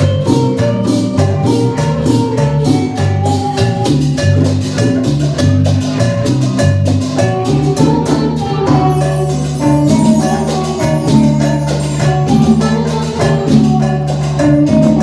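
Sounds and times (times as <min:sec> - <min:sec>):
instrumental band music: 0:00.0 - 0:15.0.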